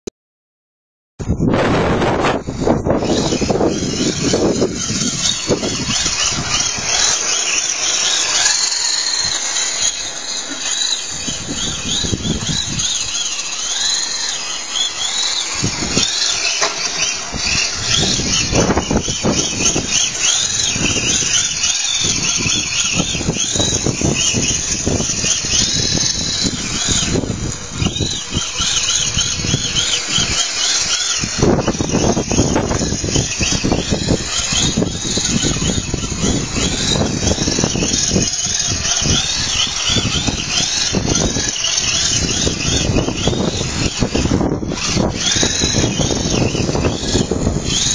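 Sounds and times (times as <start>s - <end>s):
electric motor whining: 1.2s - 47.9s.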